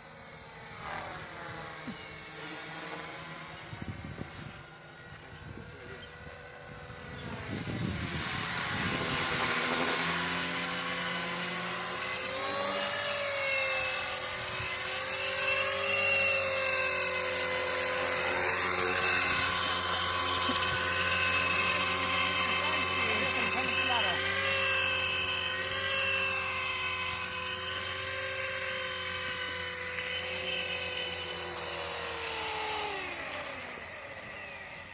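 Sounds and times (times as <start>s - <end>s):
electric model helicopter whine: 0.0s - 34.9s.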